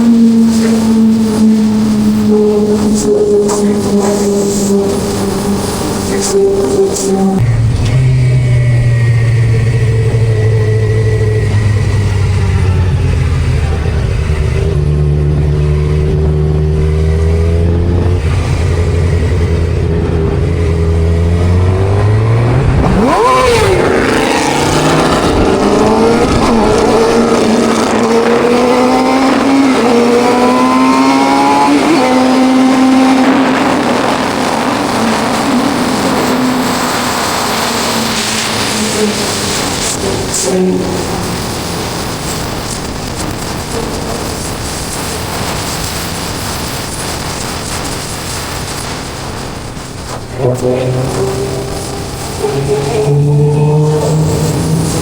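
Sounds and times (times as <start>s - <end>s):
motorcycle engine revving: 0.0s - 55.0s
wind rush: 0.2s - 55.0s.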